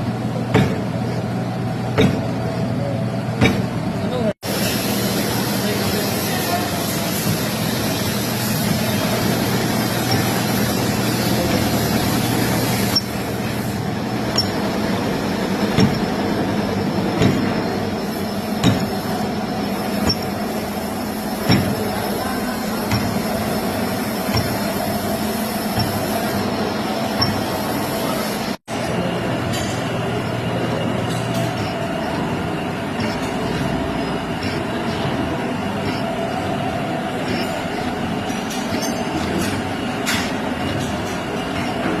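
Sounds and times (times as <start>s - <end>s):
machinery running: 0.0s - 42.0s.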